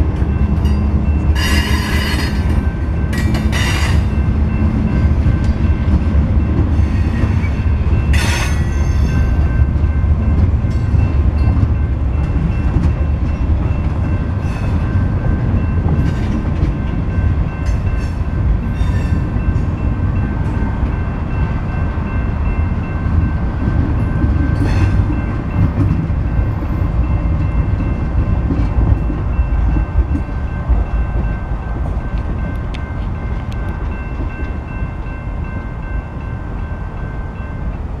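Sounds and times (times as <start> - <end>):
crossing bell ringing: 0.0 - 38.0
train wheels rumbling on rails: 0.0 - 38.0.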